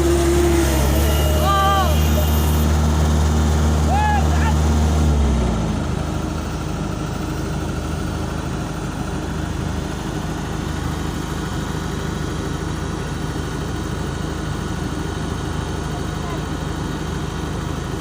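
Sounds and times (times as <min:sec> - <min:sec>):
heavy vehicle engine running: 0:00.0 - 0:18.0.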